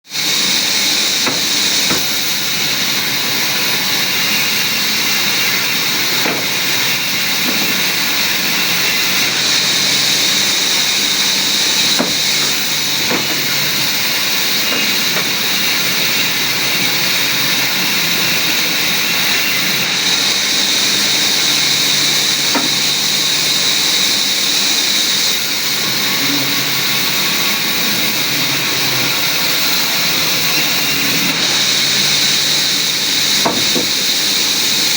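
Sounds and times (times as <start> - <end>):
woodworking machine cutting wood: 0.1 - 34.9.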